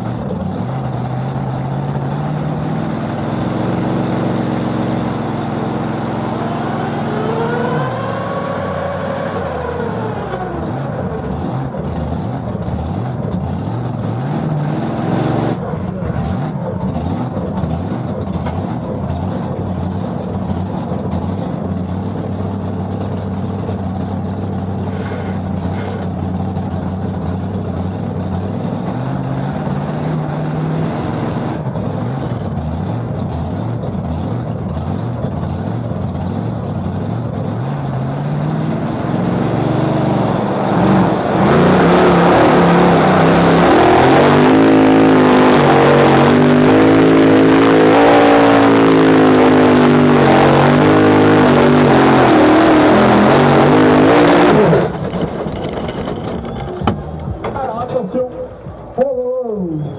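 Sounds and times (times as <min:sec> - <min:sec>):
pick-up truck engine running: 0:09.4 - 0:59.0.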